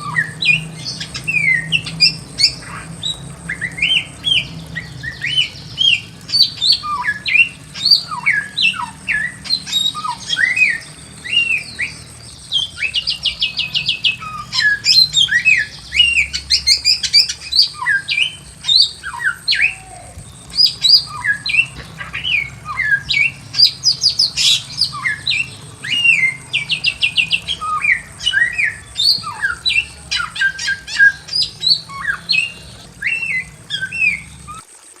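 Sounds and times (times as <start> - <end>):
bird singing whistled notes: 0.0 - 34.7.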